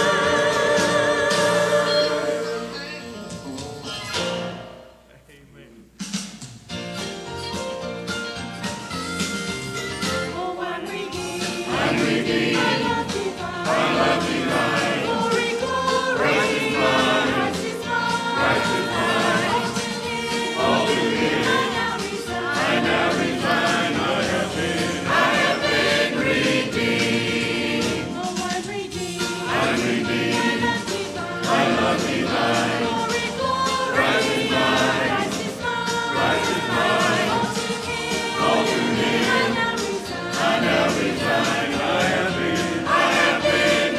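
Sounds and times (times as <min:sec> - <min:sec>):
choir singing a hymn: 0:00.0 - 0:03.1, 0:10.2 - 0:43.9.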